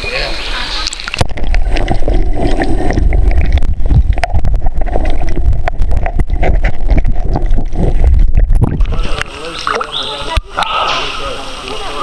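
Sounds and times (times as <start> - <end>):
underwater rush of moving water: 0.0 - 12.0
small underwater clicks and crackles: 0.8 - 10.7.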